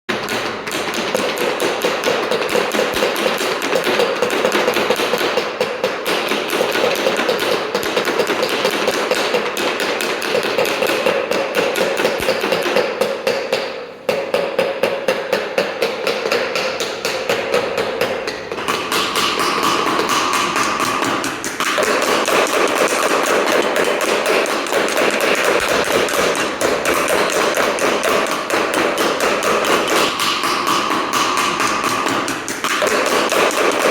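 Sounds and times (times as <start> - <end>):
rapid knocking: 0.1 - 33.9.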